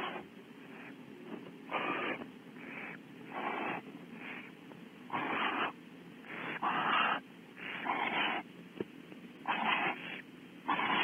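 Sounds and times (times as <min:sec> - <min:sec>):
owls giving rasping hissing calls: 0:00.0 - 0:01.0, 0:01.7 - 0:08.5, 0:09.4 - 0:11.0.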